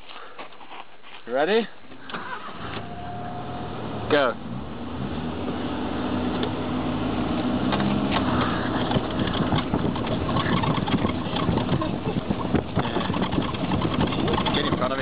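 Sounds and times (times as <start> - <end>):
tyres on gravel road: 0.0 - 15.0
car engine running: 1.9 - 15.0.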